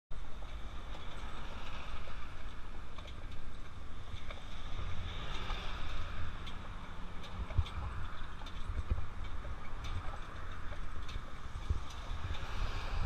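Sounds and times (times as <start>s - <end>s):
wheels rumbling on road: 0.1s - 13.0s
wind buffeting microphone: 0.1s - 13.0s
faint clicks and knocks: 0.2s - 13.0s.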